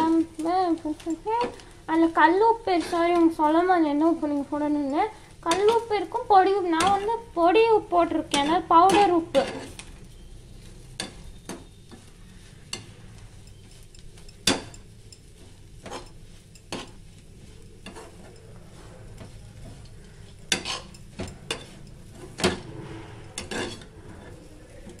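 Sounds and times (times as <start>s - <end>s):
spoon scraping metal pan: 2.4s - 25.0s.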